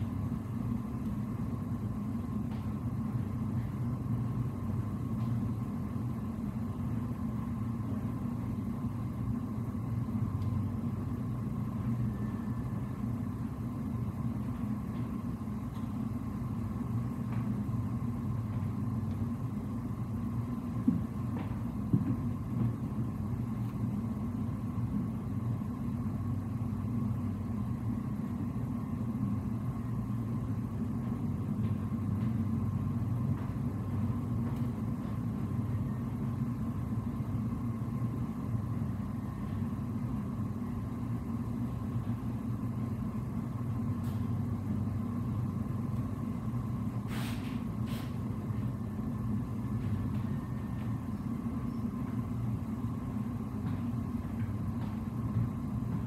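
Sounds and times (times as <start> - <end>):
faint steady whine: 0.0 - 56.0
ship machinery humming: 0.0 - 56.0.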